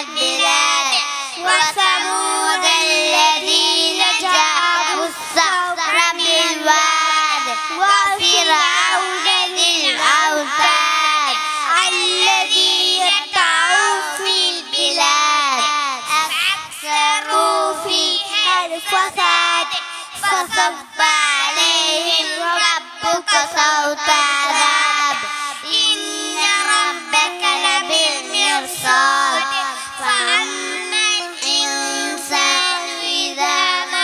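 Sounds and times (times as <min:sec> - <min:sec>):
boys singing into microphones: 0:00.0 - 0:34.0.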